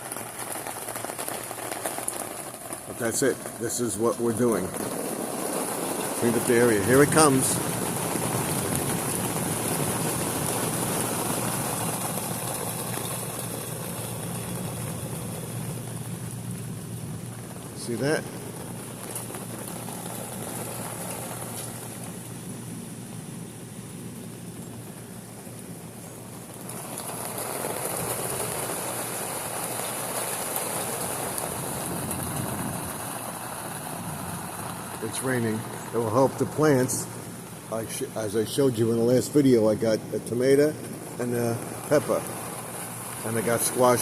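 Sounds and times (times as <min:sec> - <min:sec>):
heavy rain downpour: 0:00.0 - 0:44.0
thunder rumbling: 0:00.0 - 0:44.0
steady low hum: 0:00.2 - 0:44.0.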